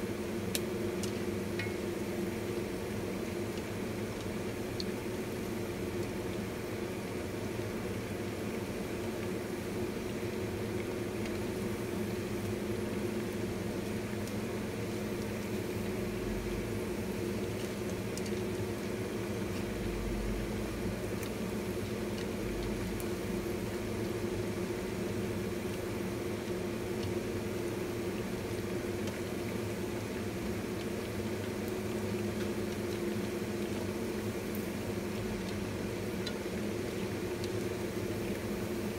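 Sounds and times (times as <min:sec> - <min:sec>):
deep-frying sizzle in oil: 0:00.0 - 0:38.9
steady hum: 0:00.0 - 0:38.9.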